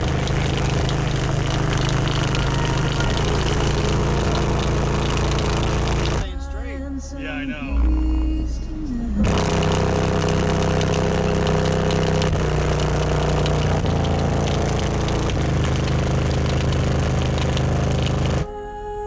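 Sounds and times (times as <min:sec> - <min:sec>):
damaged subwoofer playing bass notes: 0:00.0 - 0:06.3, 0:07.7 - 0:18.5
harsh speaker buzz: 0:00.0 - 0:06.3, 0:07.4 - 0:18.5.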